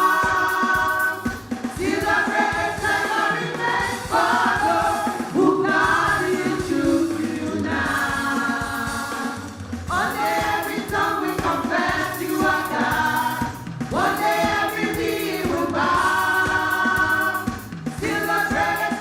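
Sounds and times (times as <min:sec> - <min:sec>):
group singing gospel song: 0:00.0 - 0:19.0
instrumental backing: 0:00.0 - 0:19.0.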